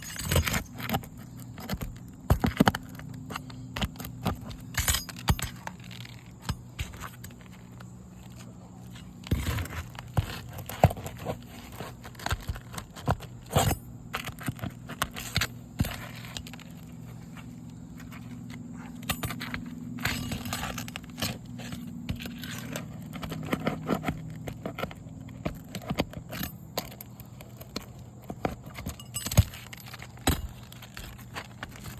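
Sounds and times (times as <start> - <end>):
roof shingle scraping and tearing: 0.0 - 31.9.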